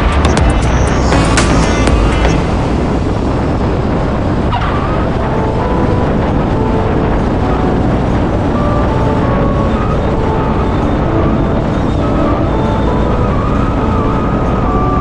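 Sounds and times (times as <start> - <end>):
airplane engine: 0.0 - 15.0
rushing wind: 0.0 - 15.0.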